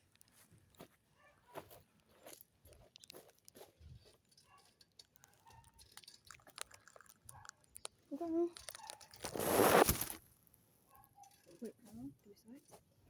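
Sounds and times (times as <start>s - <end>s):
faint clicks and crunches: 0.0s - 12.9s.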